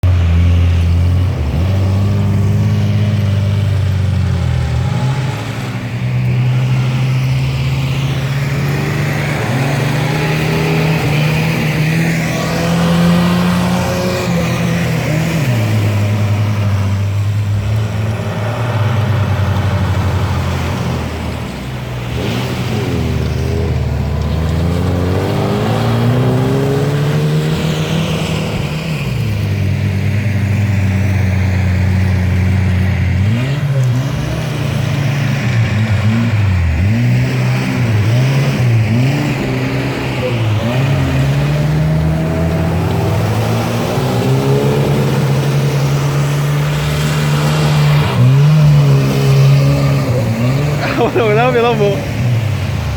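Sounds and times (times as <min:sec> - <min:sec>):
engine revving under load: 0:00.0 - 0:52.9.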